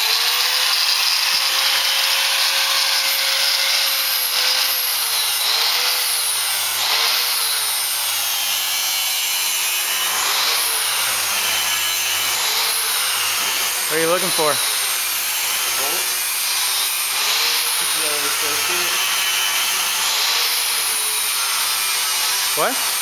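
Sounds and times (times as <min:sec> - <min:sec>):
power tool grinding metal: 0:00.0 - 0:23.0.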